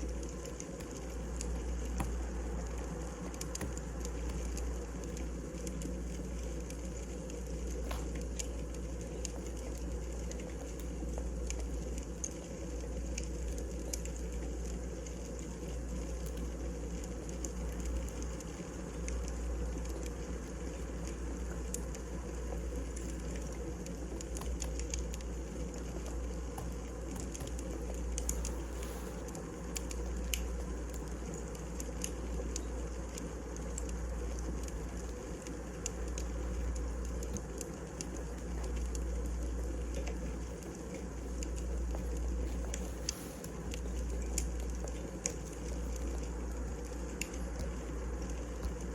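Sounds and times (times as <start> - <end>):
low fire rumble: 0.0 - 48.9
wood fire crackling and popping: 0.0 - 48.9.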